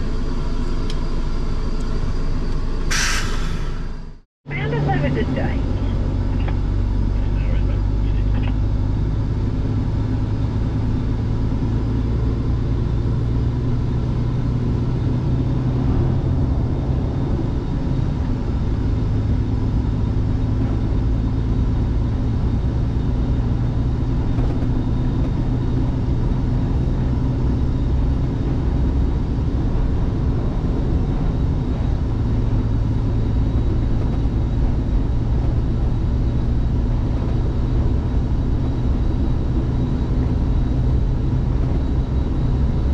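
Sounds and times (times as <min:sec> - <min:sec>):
road noise: 0:00.0 - 0:42.9
truck diesel engine humming: 0:00.0 - 0:42.9.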